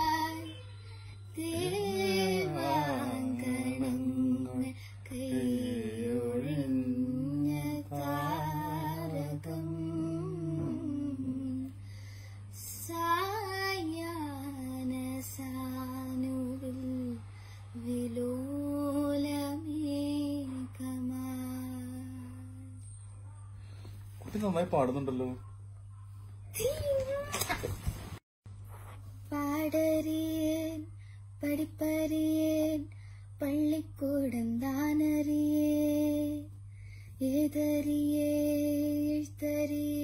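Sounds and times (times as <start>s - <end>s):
girl singing a slow song: 0.0s - 23.8s, 29.1s - 40.0s
steady low hum: 0.0s - 27.2s, 27.8s - 40.0s.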